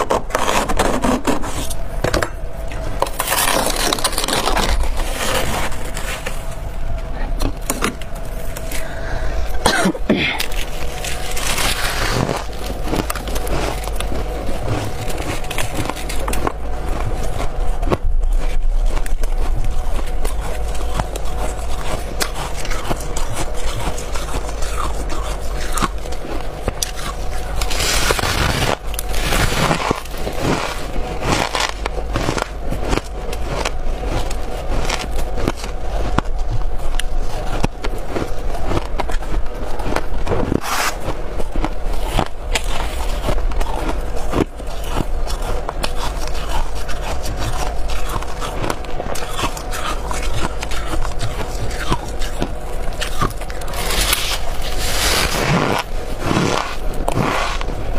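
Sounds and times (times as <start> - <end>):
ice being bitten and chewed: 0.0 - 57.9.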